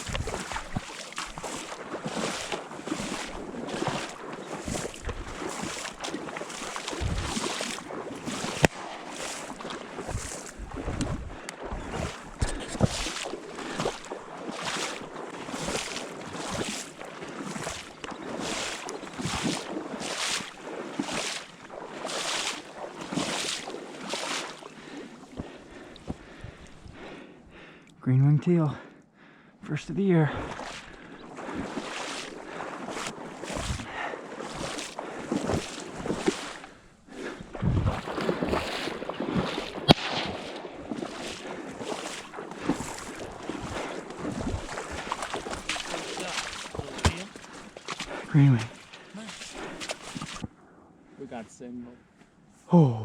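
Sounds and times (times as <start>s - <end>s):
water swishing: 0.0s - 27.7s, 30.1s - 50.6s.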